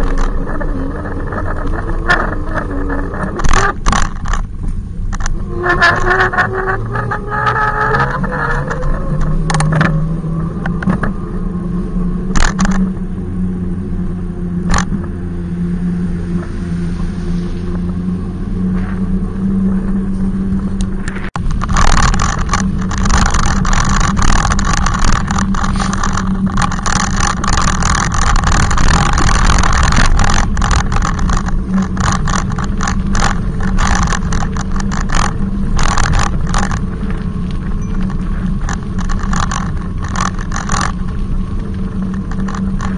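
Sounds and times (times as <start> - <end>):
clicks and rattles: 0.0 - 11.2, 12.3 - 13.0, 14.6 - 15.1, 20.8 - 42.9
bike riding noise: 0.0 - 42.9.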